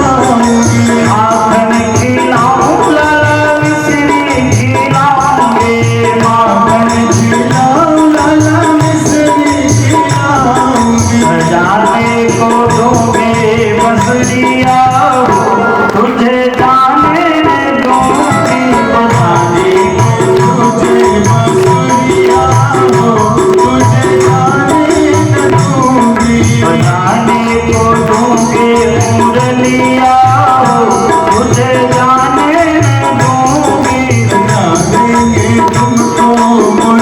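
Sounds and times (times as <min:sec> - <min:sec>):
jingling hand percussion: 0:00.0 - 0:37.0
sustained devotional melody: 0:00.0 - 0:37.0
tabla beat: 0:00.0 - 0:37.0.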